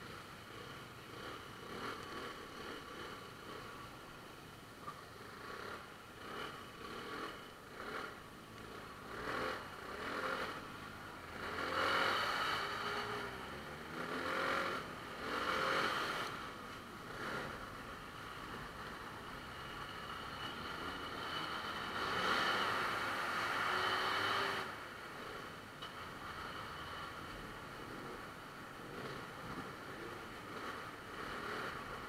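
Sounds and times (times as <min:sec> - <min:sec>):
motorcycle engines: 0:00.0 - 0:32.0.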